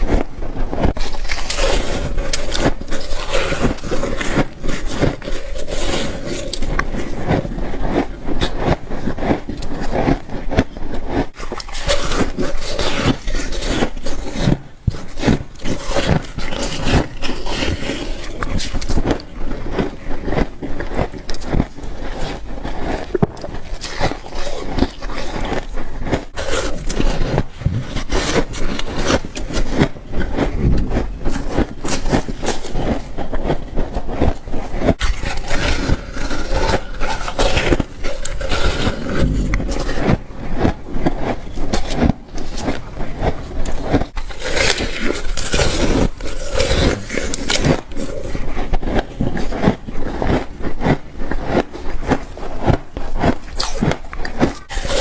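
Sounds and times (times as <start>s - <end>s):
frost crunching as it is chewed: 0.0s - 55.0s.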